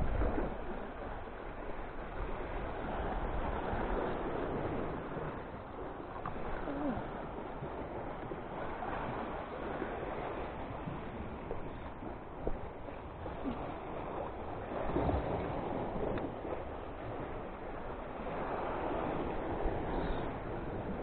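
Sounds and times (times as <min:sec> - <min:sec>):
sea washing against rocks: 0:00.0 - 0:21.0
wind buffeting microphone: 0:00.0 - 0:21.0.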